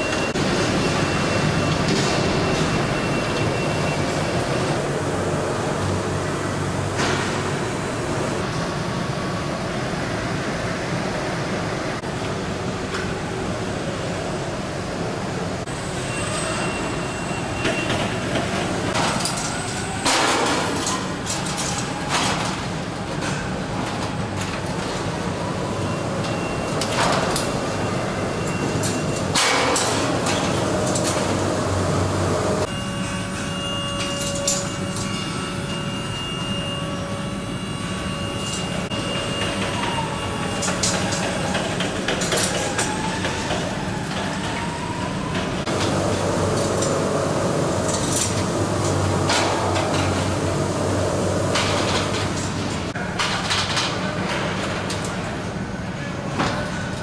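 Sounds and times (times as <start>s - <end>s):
machinery hum: 0.0s - 57.0s.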